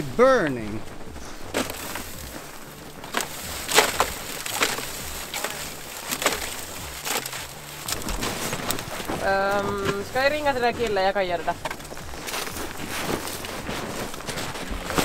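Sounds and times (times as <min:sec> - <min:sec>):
fire crackling and popping: 0:00.0 - 0:15.0
fire hissing: 0:00.0 - 0:15.0.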